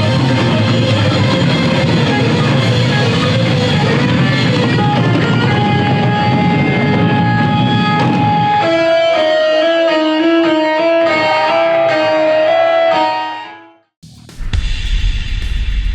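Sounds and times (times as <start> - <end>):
lead guitar bending notes: 0.0 - 13.8
electric guitar band music: 0.0 - 14.0.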